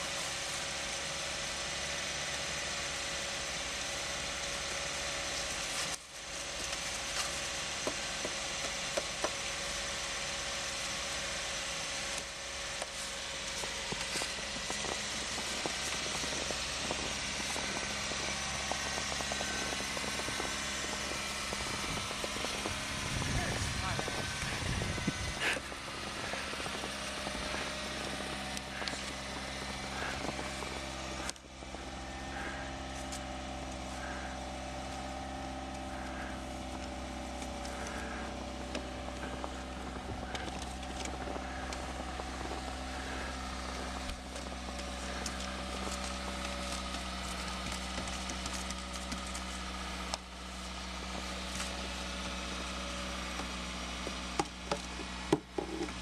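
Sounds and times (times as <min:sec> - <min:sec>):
car engine idling: 0:00.0 - 0:56.0
snow brush scraping windows: 0:00.0 - 0:56.0.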